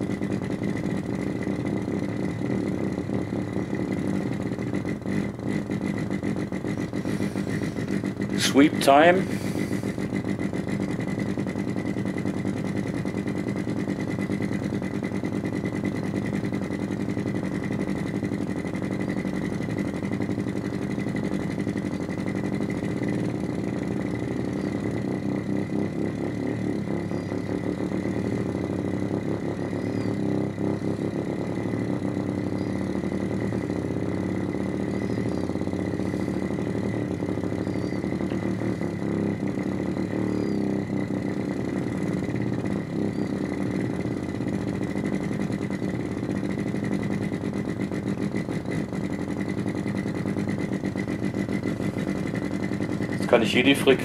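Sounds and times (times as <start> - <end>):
pulsing synthetic engine drone: 0.0 - 54.0.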